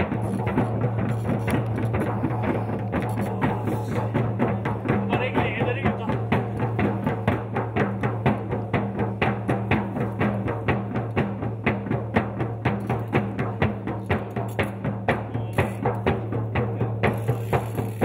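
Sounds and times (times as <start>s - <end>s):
fast drum beat: 0.0s - 18.0s.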